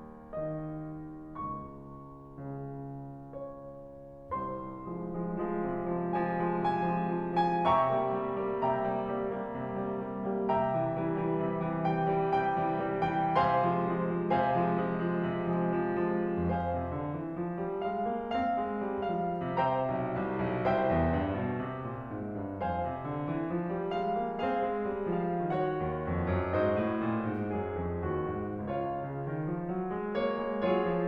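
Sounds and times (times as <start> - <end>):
solo classical piano: 0.0 - 31.0.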